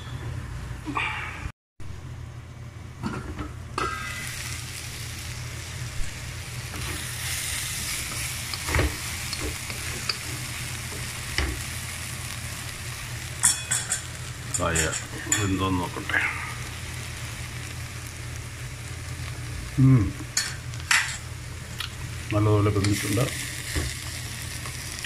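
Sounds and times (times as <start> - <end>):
food sizzling in a pan: 3.8 - 25.0.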